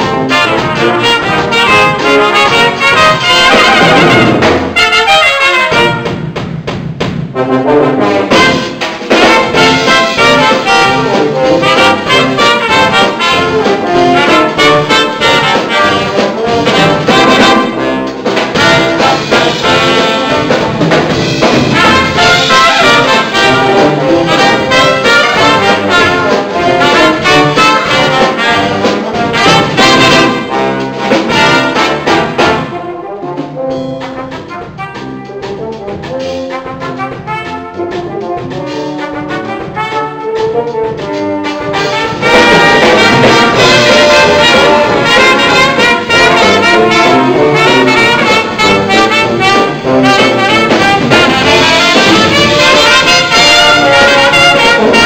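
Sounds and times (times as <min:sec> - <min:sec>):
brass band playing: 0:00.0 - 0:55.0.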